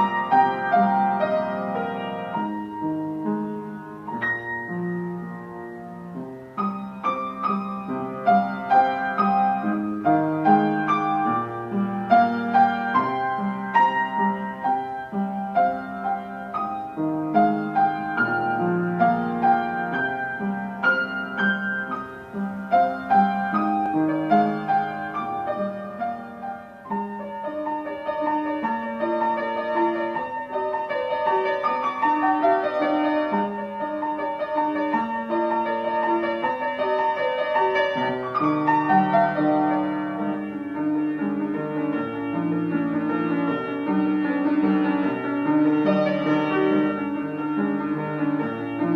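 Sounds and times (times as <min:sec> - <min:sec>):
gentle piano music: 0:00.0 - 0:48.9.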